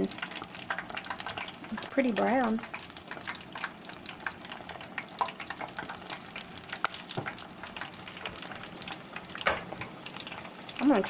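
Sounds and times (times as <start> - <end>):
deep-frying oil sizzling and popping: 0.0 - 11.0.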